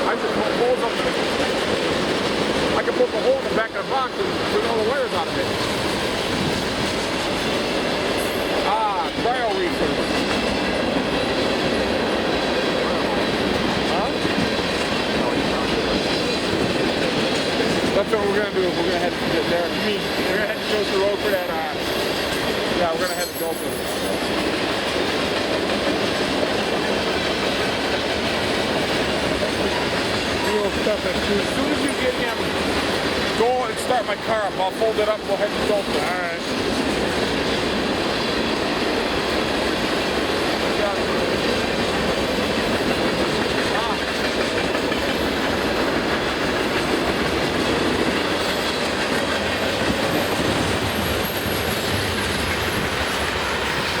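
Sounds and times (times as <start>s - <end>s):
freight train rolling by: 0.0s - 54.0s.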